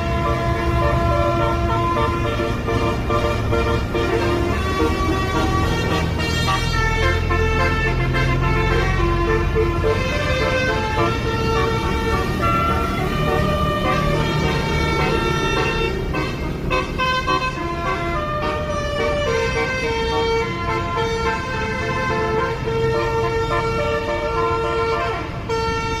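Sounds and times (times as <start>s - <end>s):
musical air horn playing tune: 0.0s - 26.0s.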